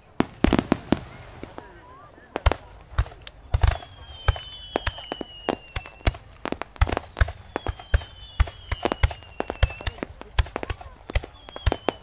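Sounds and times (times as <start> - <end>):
falling firework whistle: 0.0 - 12.0.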